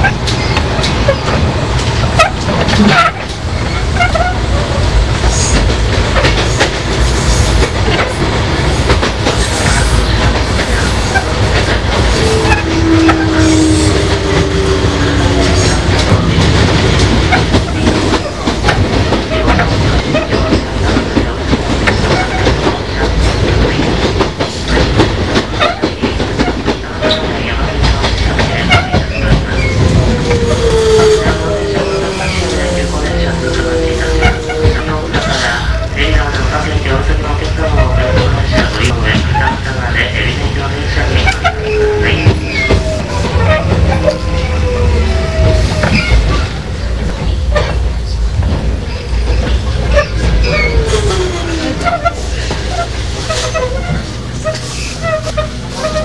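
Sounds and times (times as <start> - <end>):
train running rumble: 0.0 - 56.0
wheels clacking over rail joints: 0.0 - 56.0.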